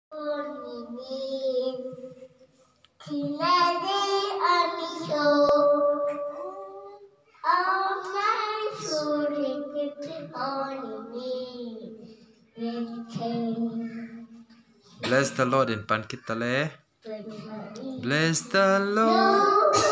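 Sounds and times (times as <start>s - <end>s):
child singing into microphone: 0.1s - 2.2s, 3.0s - 15.1s, 17.0s - 19.9s.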